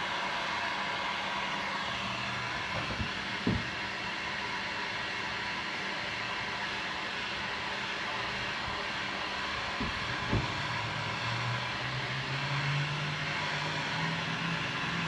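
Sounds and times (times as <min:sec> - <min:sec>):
heat gun blowing: 0:00.0 - 0:15.0.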